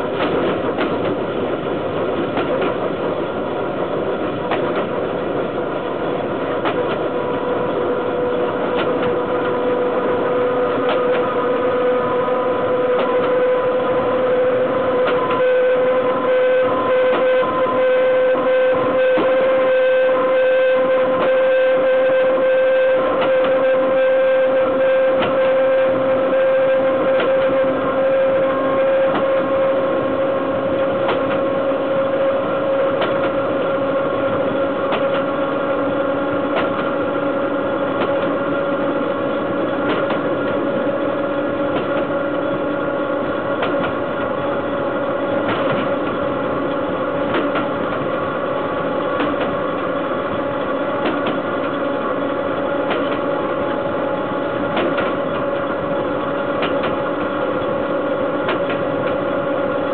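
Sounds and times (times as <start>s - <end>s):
constant whine: 0.0s - 59.9s
train wheels rolling on rails: 0.0s - 59.9s.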